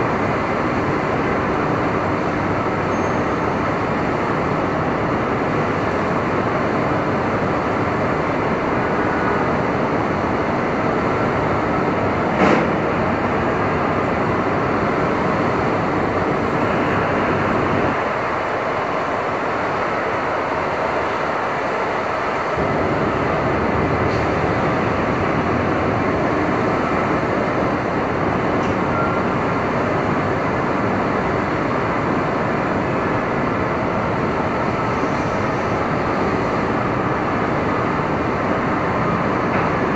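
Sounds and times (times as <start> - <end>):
traffic noise: 0.0 - 39.9
wind: 0.0 - 39.9.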